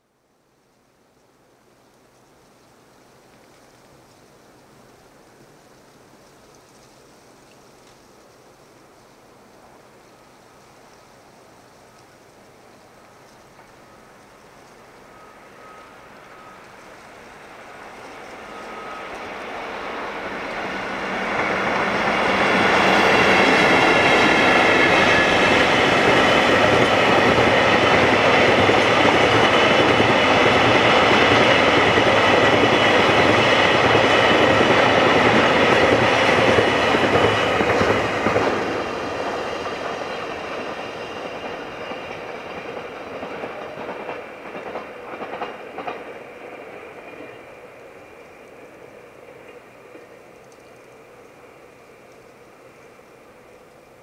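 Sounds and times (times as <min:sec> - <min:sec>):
freight train passing: 0:08.6 - 0:54.0
train whine: 0:09.3 - 0:54.0.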